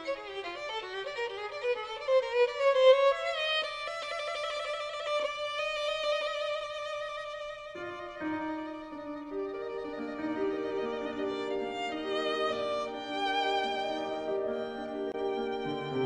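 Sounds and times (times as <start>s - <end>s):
slow violin melody: 0.0s - 16.0s.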